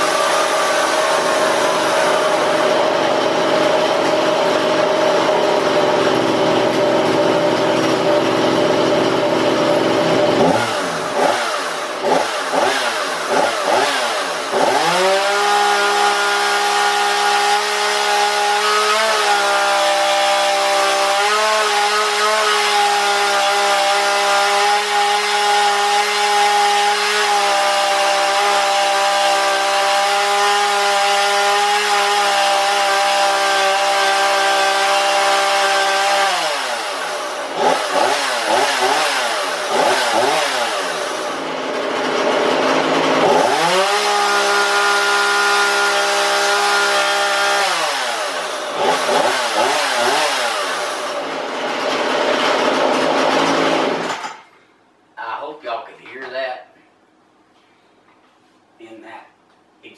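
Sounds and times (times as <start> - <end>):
chainsaw revving: 0.0 - 54.4.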